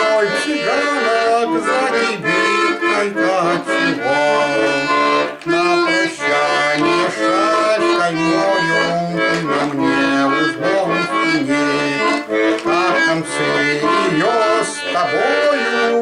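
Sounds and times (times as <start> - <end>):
button accordion slow melody: 0.0 - 16.0.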